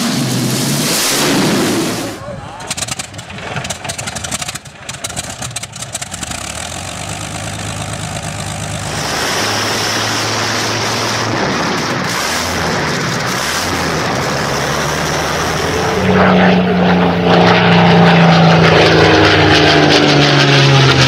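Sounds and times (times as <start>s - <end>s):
aircraft engine running steadily: 0.0s - 21.0s
aircraft engine starting up: 0.0s - 21.0s.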